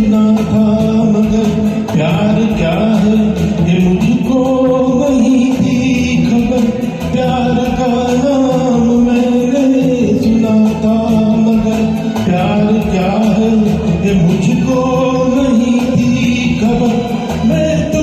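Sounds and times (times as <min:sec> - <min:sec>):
karaoke backing track: 0:00.0 - 0:18.0.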